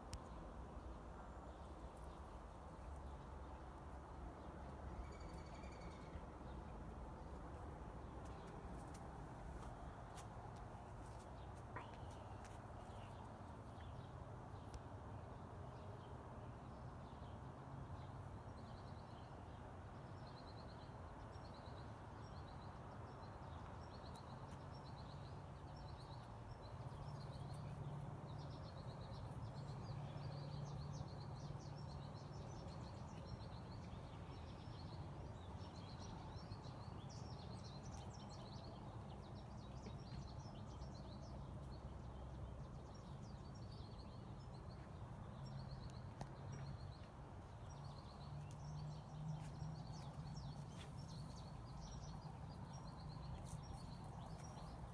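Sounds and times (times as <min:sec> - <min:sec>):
small birds chirping: 0:00.0 - 0:14.8, 0:20.2 - 0:54.9.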